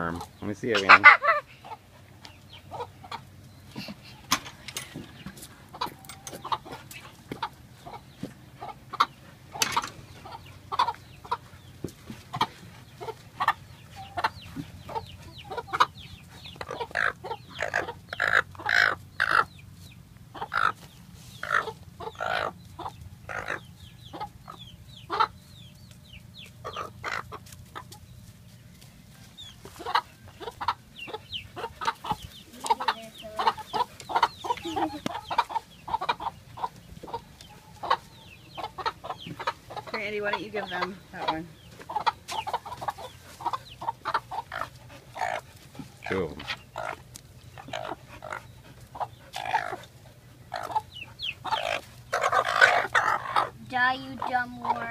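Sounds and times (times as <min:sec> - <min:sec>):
hens clucking: 0:00.0 - 0:54.9.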